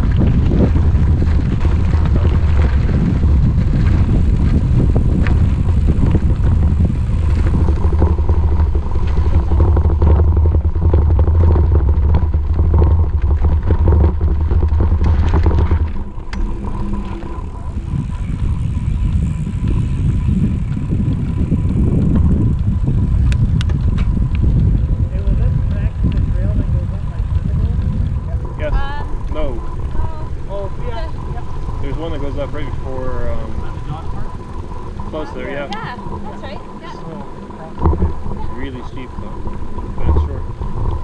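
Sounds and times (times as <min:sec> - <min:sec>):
bicycle tyre rumble on gravel: 0:00.0 - 0:41.0
faint steady whine: 0:00.0 - 0:41.0
wind on microphone: 0:00.0 - 0:41.0.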